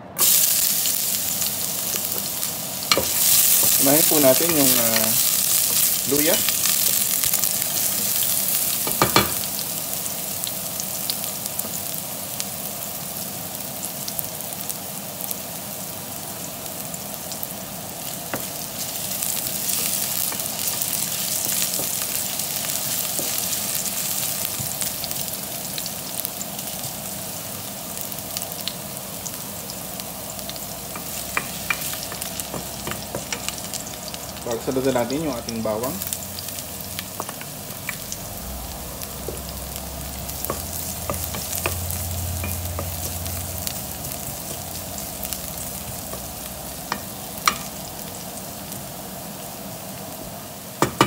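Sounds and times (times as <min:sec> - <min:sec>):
ginger sizzling in hot oil: 0:00.0 - 0:51.0.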